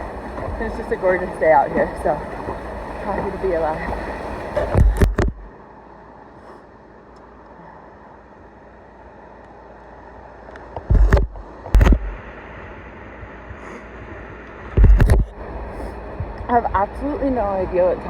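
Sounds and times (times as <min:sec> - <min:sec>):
ocean surf: 0:00.0 - 0:06.9, 0:10.0 - 0:18.0.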